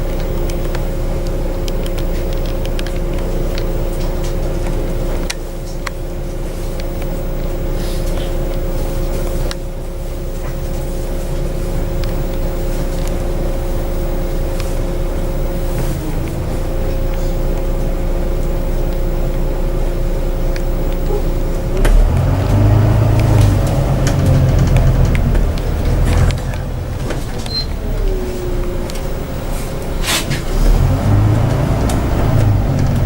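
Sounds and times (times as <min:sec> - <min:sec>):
bus engine idling: 0:00.0 - 0:33.0.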